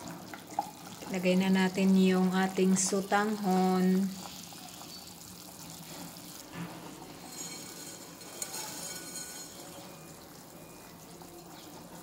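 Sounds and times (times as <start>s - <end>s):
soup boiling and bubbling: 0.0s - 12.0s.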